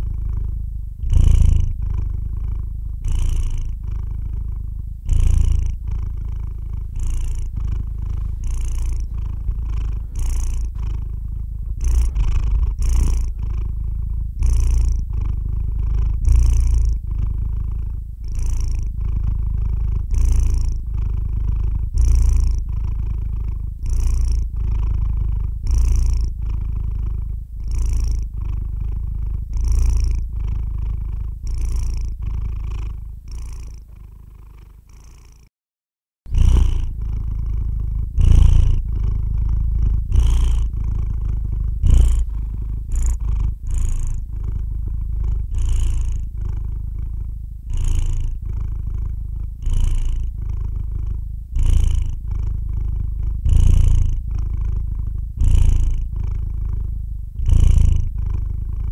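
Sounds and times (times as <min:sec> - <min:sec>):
cat purring: 0:00.0 - 0:35.5, 0:36.3 - 0:58.9.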